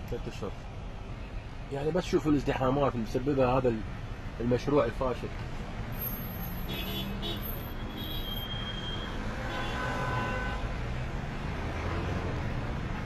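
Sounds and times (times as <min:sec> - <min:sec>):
low rumble of idling traffic: 0:00.0 - 0:13.0.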